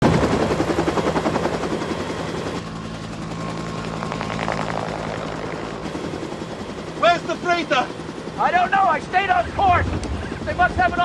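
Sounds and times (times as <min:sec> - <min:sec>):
helicopter engine hum: 0:00.0 - 0:11.0
helicopter rotor beating: 0:00.0 - 0:11.0.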